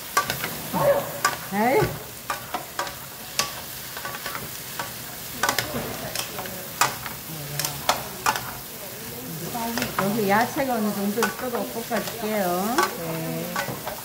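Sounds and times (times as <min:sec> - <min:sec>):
food sizzling in a wok: 0:00.0 - 0:14.0
spatulas scraping a pan: 0:00.0 - 0:14.0.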